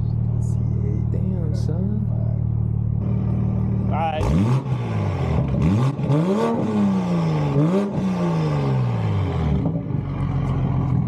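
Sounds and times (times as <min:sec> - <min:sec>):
car engine revving and idling: 0:00.0 - 0:11.0.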